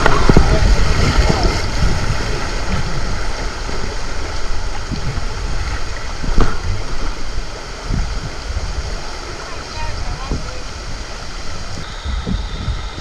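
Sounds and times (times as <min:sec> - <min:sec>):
water noise: 0:00.0 - 0:13.0
wind rumbling on microphone: 0:00.0 - 0:13.0.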